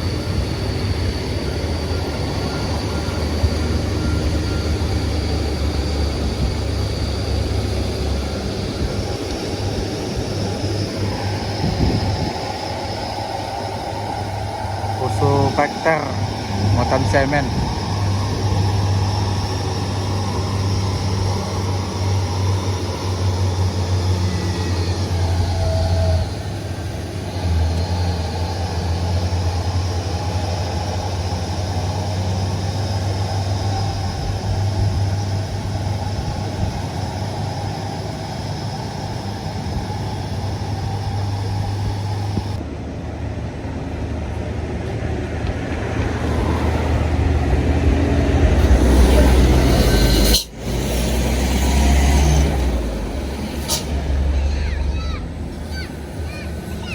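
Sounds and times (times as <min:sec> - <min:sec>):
road traffic engines droning: 0:00.0 - 0:56.9.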